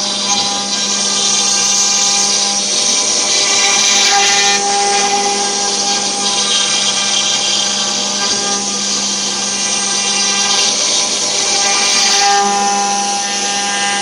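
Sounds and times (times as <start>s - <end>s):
router spindle whine and hiss: 0.0s - 14.0s.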